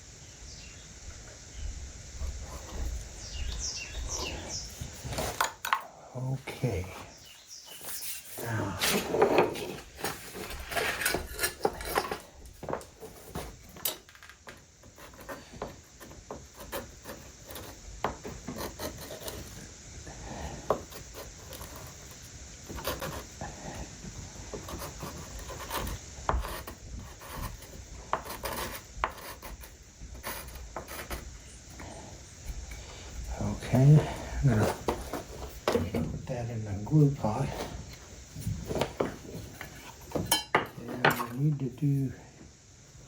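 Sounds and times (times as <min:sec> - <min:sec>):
tool scraping and rubbing wood: 0:02.2 - 0:05.8, 0:06.6 - 0:41.4.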